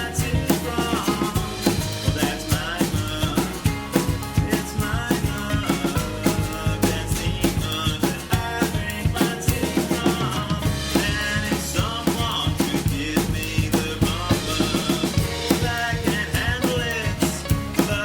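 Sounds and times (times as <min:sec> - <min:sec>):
band playing instrumental: 0:00.0 - 0:18.0
drum kit beat: 0:00.0 - 0:18.0.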